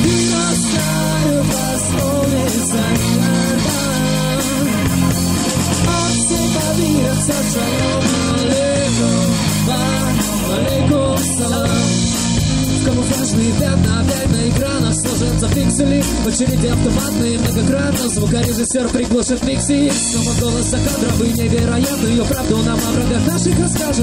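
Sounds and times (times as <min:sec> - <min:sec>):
bass guitar: 0:00.0 - 0:24.0
drum kit: 0:00.0 - 0:24.0
electric guitar: 0:00.0 - 0:24.0
keyboard: 0:00.0 - 0:24.0.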